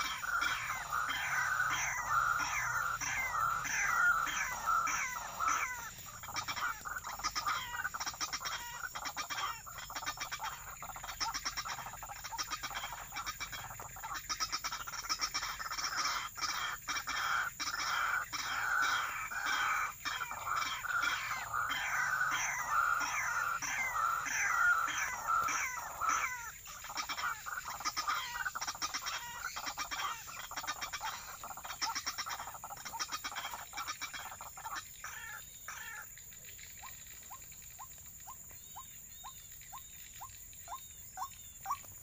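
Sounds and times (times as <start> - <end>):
waterhen harsh croaking calls: 0.0 - 42.0.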